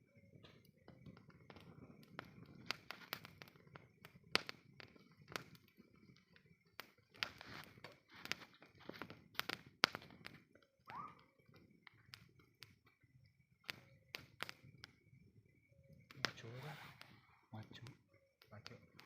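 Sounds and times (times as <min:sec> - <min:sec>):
burning wood crackling and popping: 0:00.0 - 0:19.0
low rumble of flames: 0:00.0 - 0:19.0.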